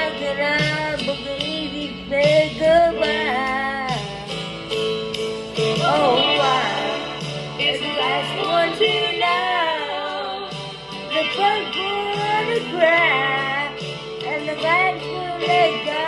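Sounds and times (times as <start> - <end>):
woman singing country ballad: 0.0 - 4.6, 5.6 - 16.0
instrumental backing track: 0.0 - 16.0.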